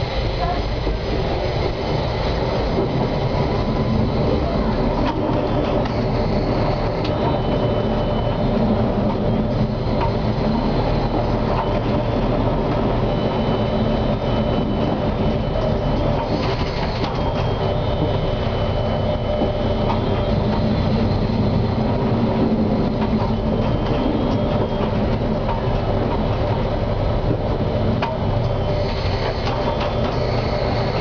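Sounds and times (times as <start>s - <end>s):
tram wheels rumbling on track: 0.0s - 31.0s
high whining tones: 1.3s - 31.0s.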